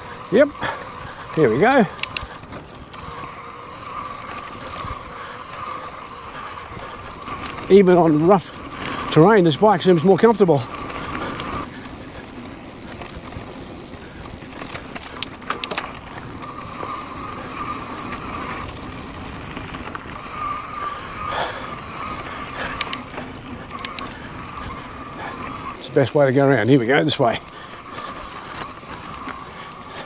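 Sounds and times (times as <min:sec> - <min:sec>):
tyre rumble on dirt trail: 0:00.0 - 0:30.0.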